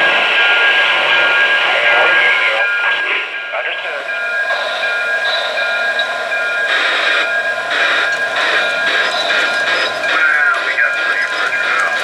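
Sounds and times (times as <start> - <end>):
model train hum and whine: 0.0 - 12.0.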